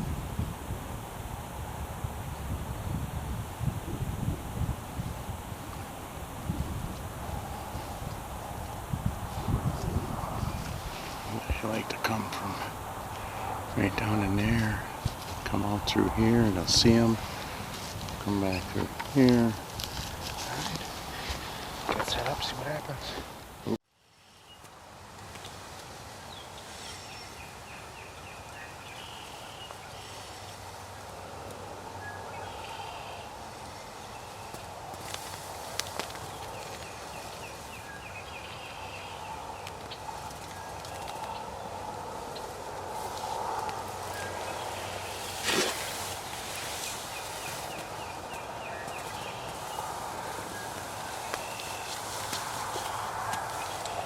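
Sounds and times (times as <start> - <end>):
background noise: 0.0 - 54.0.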